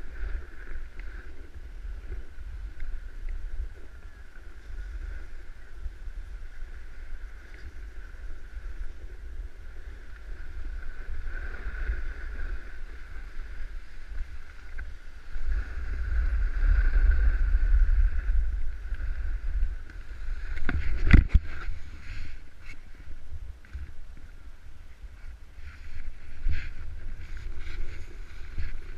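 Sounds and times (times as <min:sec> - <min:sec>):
snowboard scraping over snow: 0:00.0 - 0:23.1, 0:25.6 - 0:28.9
wind rumble on microphone: 0:00.0 - 0:28.9.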